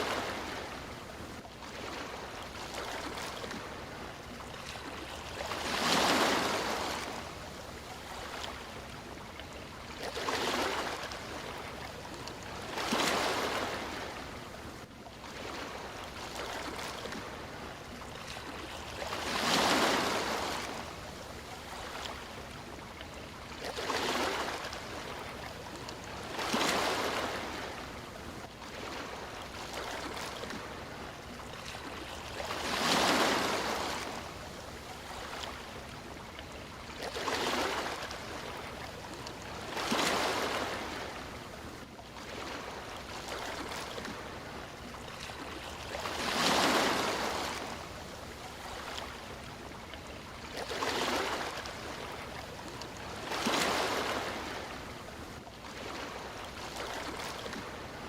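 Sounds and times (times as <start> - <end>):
sea waves washing onto shore: 0.0 - 14.7, 15.3 - 35.8, 36.9 - 49.2.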